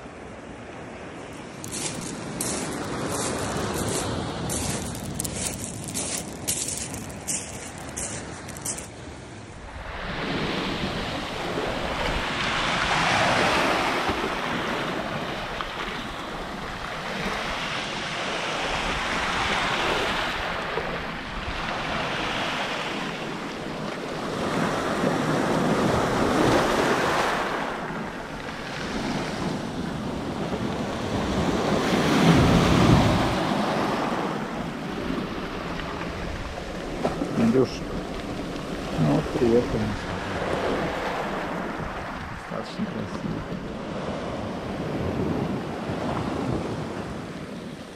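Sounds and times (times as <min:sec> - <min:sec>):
waves washing onto pebbles: 0:01.3 - 0:09.2, 0:09.8 - 0:47.5.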